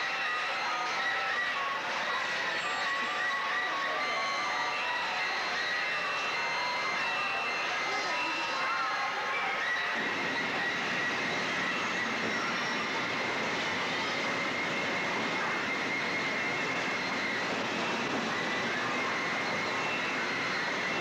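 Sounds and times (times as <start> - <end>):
carnival ride machinery: 0.0 - 21.0
crowd noise: 0.0 - 21.0
faint high whine: 0.0 - 21.0.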